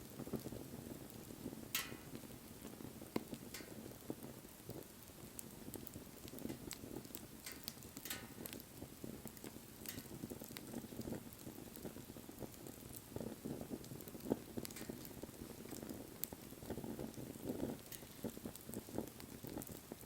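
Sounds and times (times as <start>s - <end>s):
fire crackling and popping: 0.0s - 20.0s
flame rushing: 0.2s - 20.0s.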